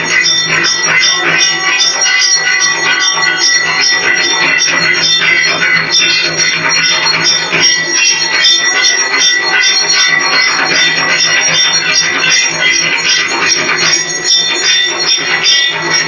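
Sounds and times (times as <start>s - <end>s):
brass bells ringing rapidly: 0.0s - 16.0s.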